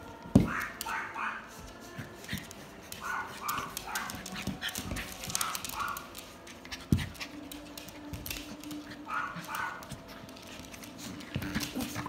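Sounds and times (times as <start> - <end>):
paws scuffling on wooden floor: 0.2 - 12.0.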